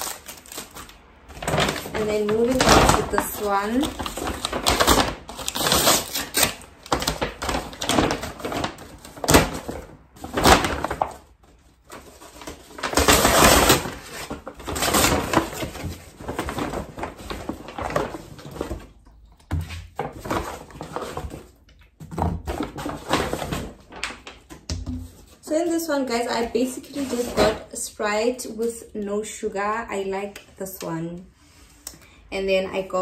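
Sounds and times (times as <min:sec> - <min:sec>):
paper bag rustling and crinkling: 0:00.0 - 0:27.7.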